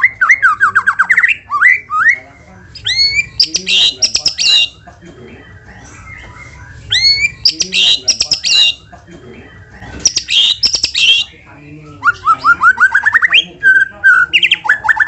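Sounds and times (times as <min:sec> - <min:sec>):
bird singing whistles and chatter: 0:00.0 - 0:09.0, 0:10.0 - 0:11.4, 0:12.0 - 0:15.0.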